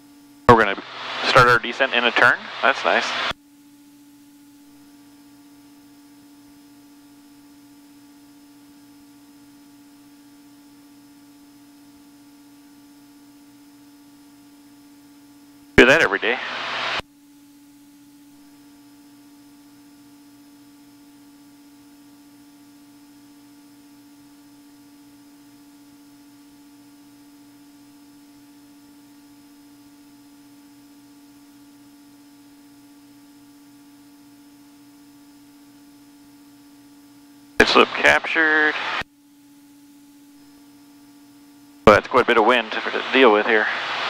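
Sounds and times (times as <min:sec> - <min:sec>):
faint electrical hum: 0:00.0 - 0:44.0.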